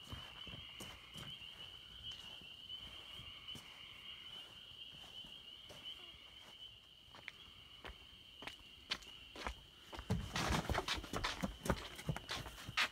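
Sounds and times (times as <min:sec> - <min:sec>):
crickets trilling: 0:00.0 - 0:12.9
faint footsteps on pavement: 0:00.0 - 0:12.9.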